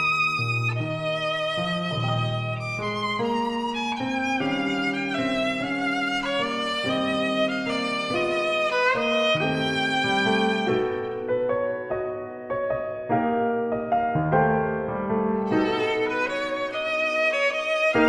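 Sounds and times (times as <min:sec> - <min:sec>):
violin melody: 0:00.0 - 0:18.0.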